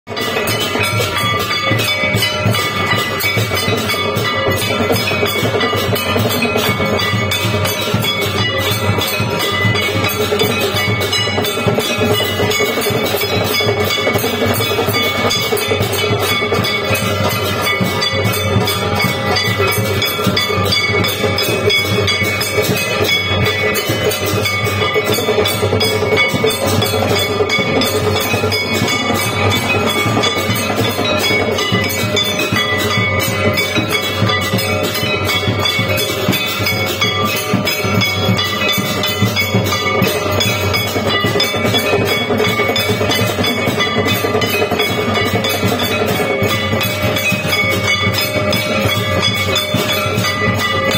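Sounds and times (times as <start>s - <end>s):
gongs and metal plates clanging: 0.1s - 50.9s.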